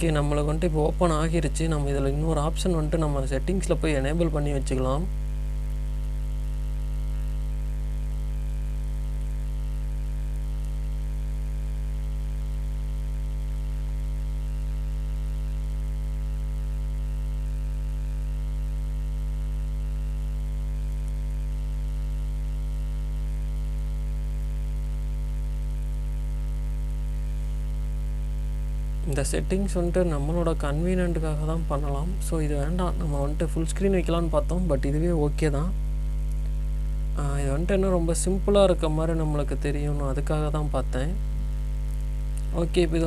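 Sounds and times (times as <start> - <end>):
electrical mains hum: 0.0 - 43.0.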